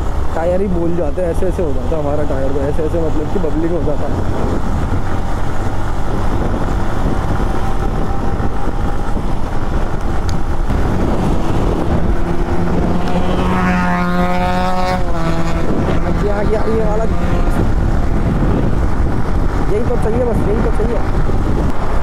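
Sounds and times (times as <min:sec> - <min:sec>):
humming engine note: 0:00.0 - 0:22.0
motorcycle engine rumble: 0:00.0 - 0:22.0
wind noise: 0:00.0 - 0:22.0.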